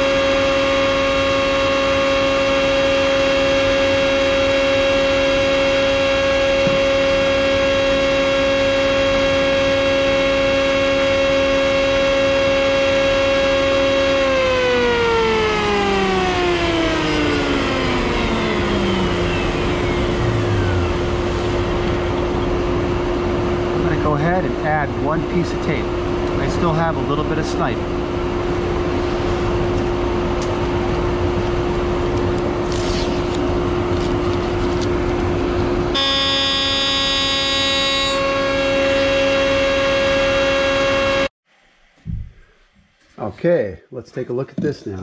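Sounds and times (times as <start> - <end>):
dust collector humming: 0.0 - 41.3
router high whine: 0.0 - 41.3.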